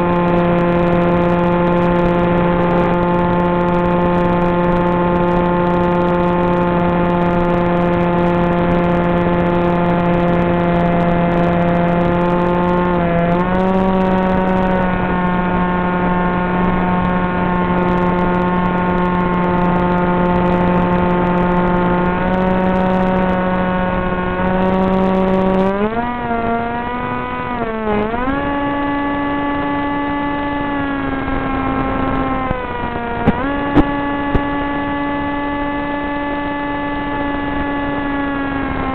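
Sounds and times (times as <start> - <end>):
electric motor and propeller whine: 0.0 - 38.9.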